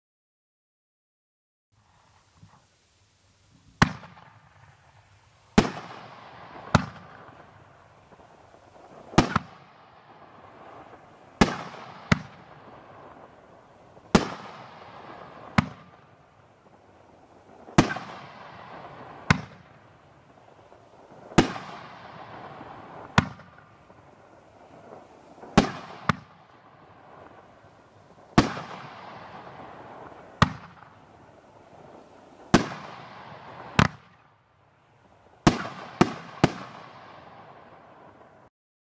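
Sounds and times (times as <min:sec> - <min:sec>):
fireworks bangs: 0:03.5 - 0:38.5.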